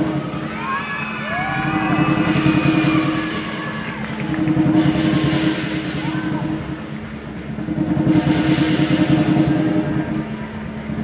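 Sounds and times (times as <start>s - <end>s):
big drum beaten fast: 0.0s - 11.0s
cymbals clashing: 0.0s - 11.0s.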